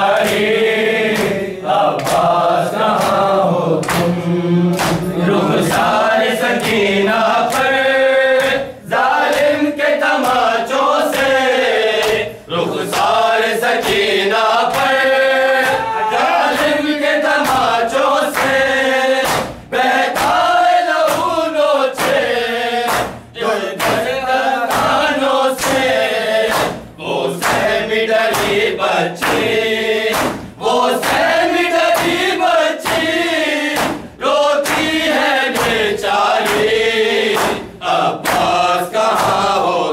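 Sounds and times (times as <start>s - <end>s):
men chanting in chorus: 0.0s - 39.9s
hands slapping chests: 0.1s - 7.8s, 8.4s - 11.4s, 12.0s - 18.6s, 19.2s - 39.7s.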